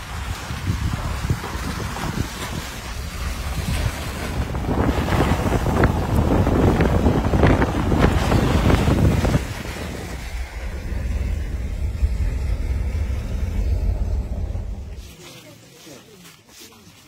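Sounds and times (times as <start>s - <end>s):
wind buffeting microphone: 0.0s - 15.2s
low road rumble: 0.0s - 15.8s.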